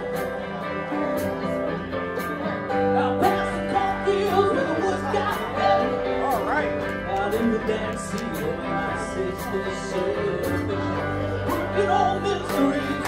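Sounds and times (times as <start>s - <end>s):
guitars: 0.0s - 13.0s
person singing: 0.0s - 13.0s.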